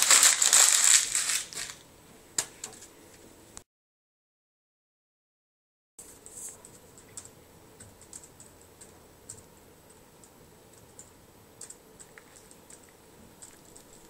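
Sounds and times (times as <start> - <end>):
faint steady hum: 0.0 - 3.6, 6.0 - 14.0.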